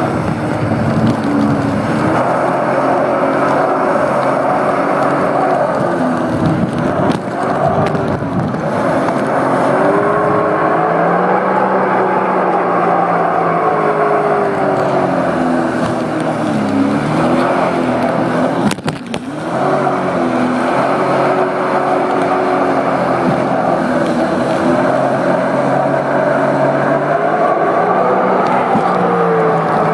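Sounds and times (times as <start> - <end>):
personal watercraft engine running: 0.0 - 29.9.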